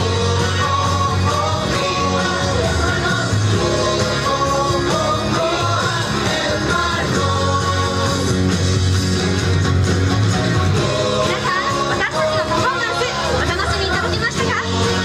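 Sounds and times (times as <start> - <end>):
dance song over loudspeaker: 0.0 - 15.0.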